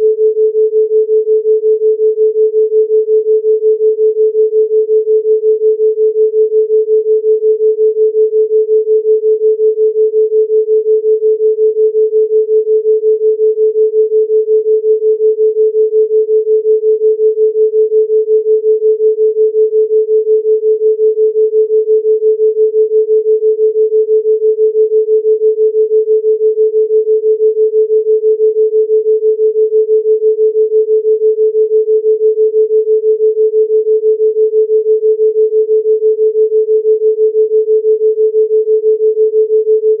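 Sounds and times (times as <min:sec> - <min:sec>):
pulsing sine tone: 0:00.0 - 0:40.0.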